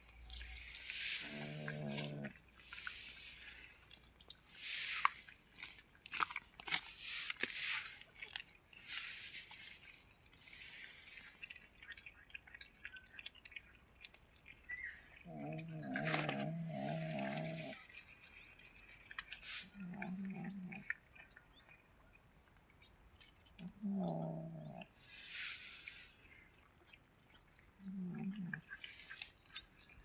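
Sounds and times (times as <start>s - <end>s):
wet chewing: 0.0s - 10.4s, 11.0s - 25.0s, 26.2s - 30.0s
cat eating crunchily: 0.0s - 30.0s.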